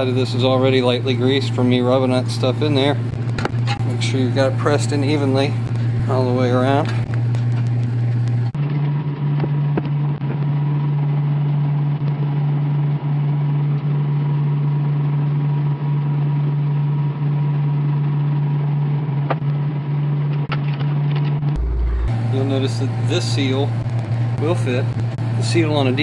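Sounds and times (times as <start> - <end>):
low hum: 0.0 - 20.5, 21.2 - 26.0.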